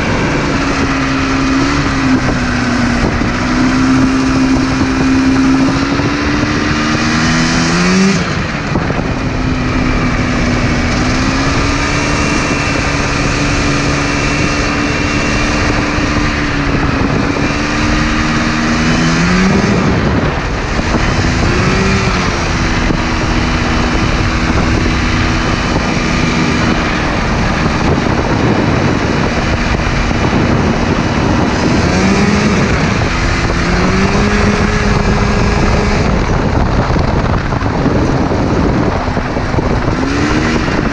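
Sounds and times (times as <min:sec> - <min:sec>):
two-stroke engine running hard: 0:00.0 - 0:40.9.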